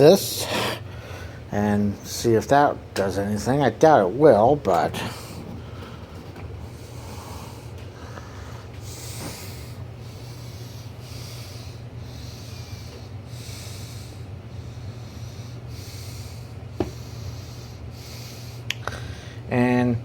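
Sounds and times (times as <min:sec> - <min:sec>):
fan motor humming: 0:00.0 - 0:20.0.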